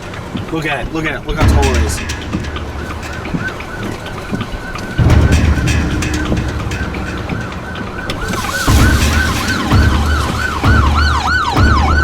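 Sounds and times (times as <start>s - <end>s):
low rumble surges: 1.1s - 12.0s
emergency siren yelping: 2.2s - 12.0s.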